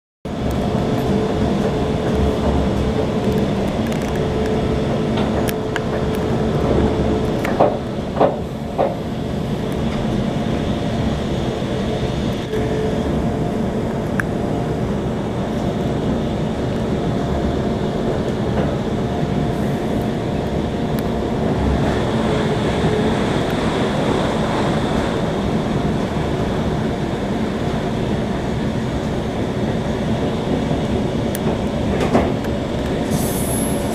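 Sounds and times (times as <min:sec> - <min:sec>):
train rumbling on rails: 0:00.3 - 0:33.9.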